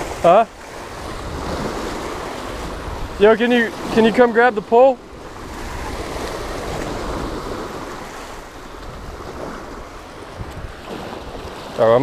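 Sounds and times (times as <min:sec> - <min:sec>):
wind rumbling on microphone: 0:00.0 - 0:04.3, 0:05.0 - 0:12.0
surf washing over rocks: 0:00.0 - 0:12.0.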